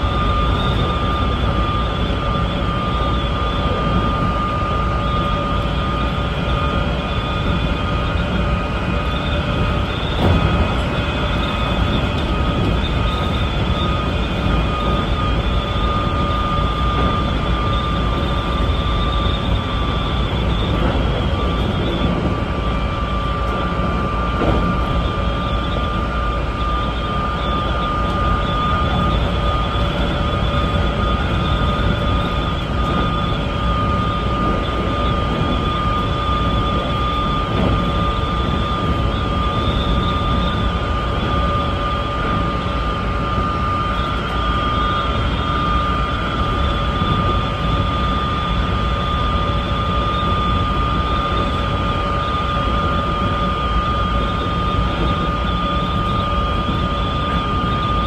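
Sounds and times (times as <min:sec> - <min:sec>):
high electric whine: 0:00.0 - 0:58.0
train wheels rumbling on rail: 0:00.0 - 0:58.0.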